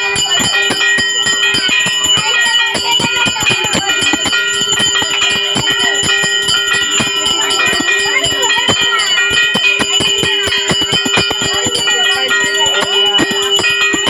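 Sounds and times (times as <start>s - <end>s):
temple bells ringing rapidly: 0.0s - 14.0s.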